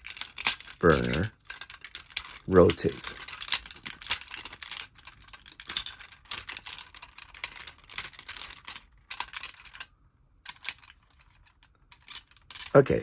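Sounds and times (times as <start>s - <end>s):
plastic toy parts clicking: 0.0s - 12.8s.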